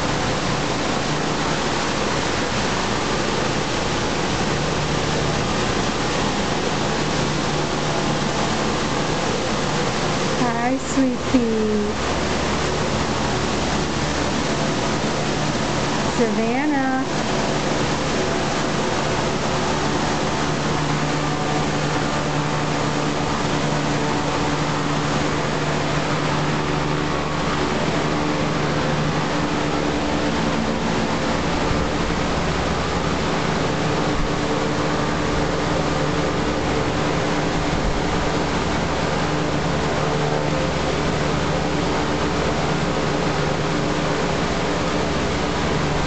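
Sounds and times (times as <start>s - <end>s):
machine humming with hiss: 0.0s - 46.0s.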